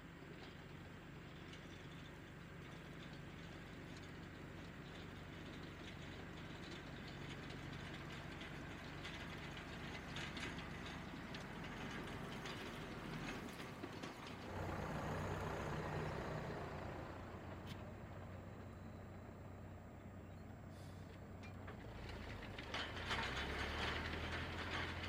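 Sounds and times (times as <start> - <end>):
tractor engine running: 0.0 - 25.0
harrow clattering: 0.3 - 25.0.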